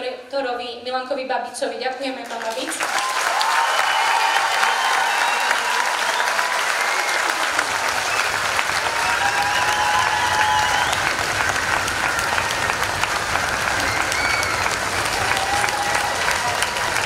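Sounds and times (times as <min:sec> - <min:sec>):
applause: 0:02.2 - 0:17.0.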